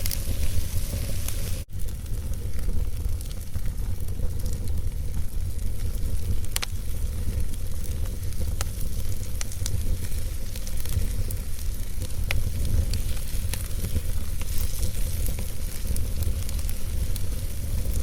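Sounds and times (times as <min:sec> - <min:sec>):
campfire crackling and popping: 0:00.0 - 0:18.0
low rumble of wind: 0:00.0 - 0:18.0.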